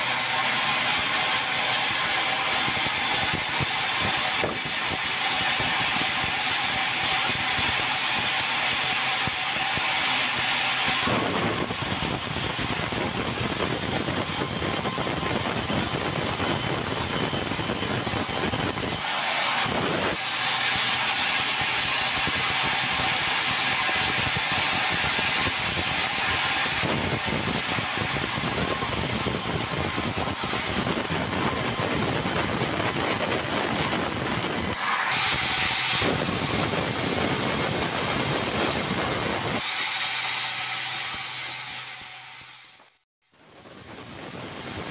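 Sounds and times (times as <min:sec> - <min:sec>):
band saw cutting wood: 0:00.0 - 0:43.0
saw blade hiss: 0:00.0 - 0:43.0.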